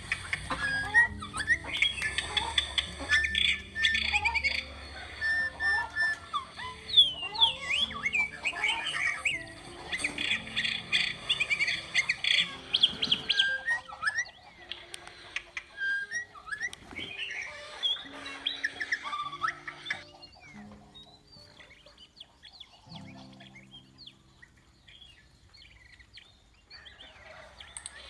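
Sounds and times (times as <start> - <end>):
birds chirping and squawking: 0.0 - 28.0.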